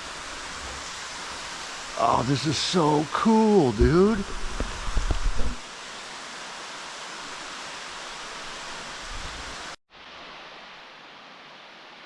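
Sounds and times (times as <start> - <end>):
falling water echoing in a cave: 0.0 - 12.0.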